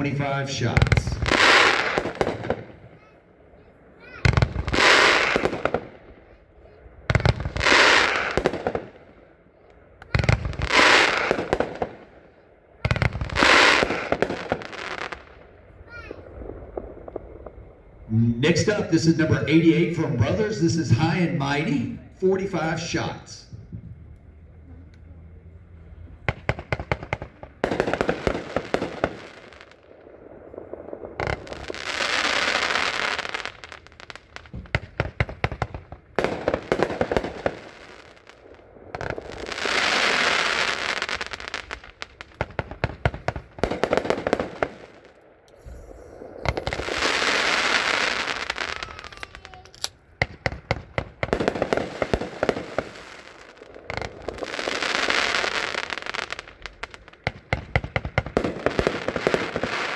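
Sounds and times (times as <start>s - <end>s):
fireworks crackling hiss: 0.0s - 3.2s, 3.9s - 24.1s, 24.9s - 59.9s
fireworks shots and bangs: 0.0s - 24.2s, 26.1s - 59.9s.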